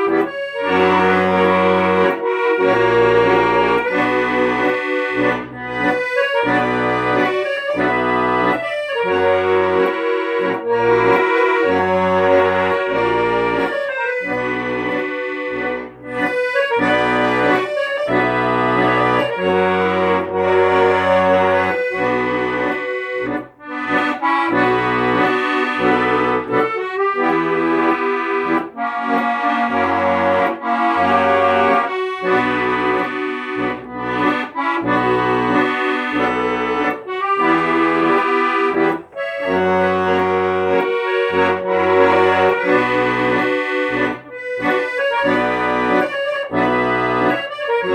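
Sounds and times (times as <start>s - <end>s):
accordion playing: 0.0s - 47.9s.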